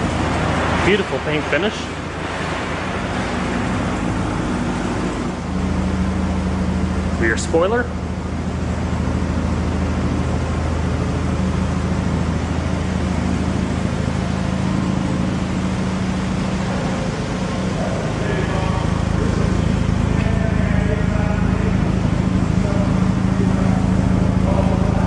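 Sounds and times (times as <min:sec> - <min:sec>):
rotary engine idling: 0:00.0 - 0:25.0.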